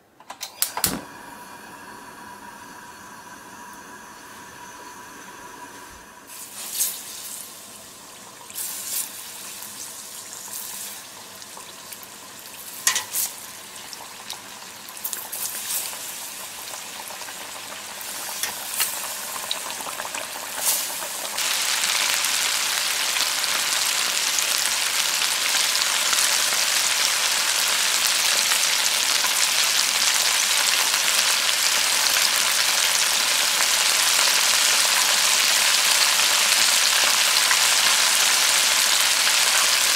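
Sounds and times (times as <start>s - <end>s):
chicken sizzling in oil: 1.0s - 39.9s.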